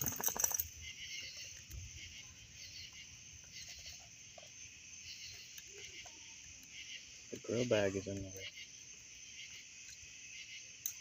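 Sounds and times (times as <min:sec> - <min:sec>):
crickets and insects chirping: 0:00.0 - 0:11.0.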